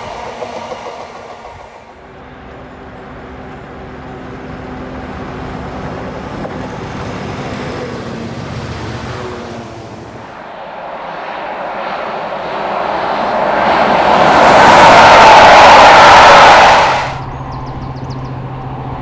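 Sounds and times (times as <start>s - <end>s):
railway locomotive running: 0.0s - 19.0s.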